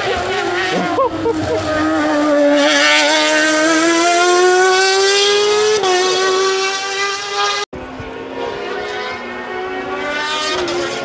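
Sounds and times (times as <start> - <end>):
race car engine accelerating: 0.0 - 11.0.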